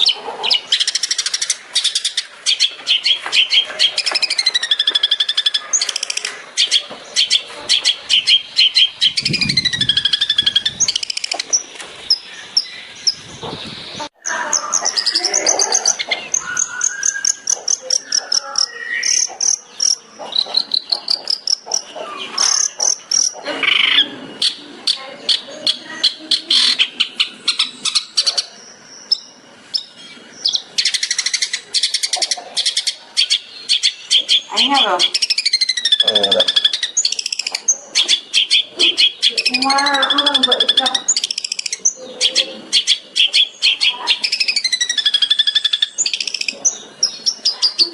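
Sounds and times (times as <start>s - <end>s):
shrike singing varied song: 0.0s - 47.9s.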